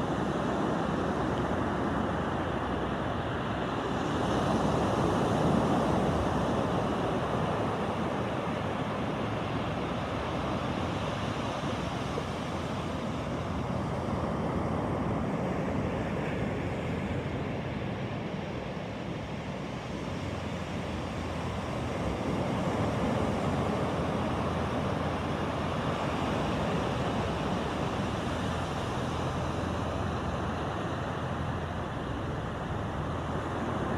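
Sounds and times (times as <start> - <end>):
waves breaking on beach: 0.0 - 33.9.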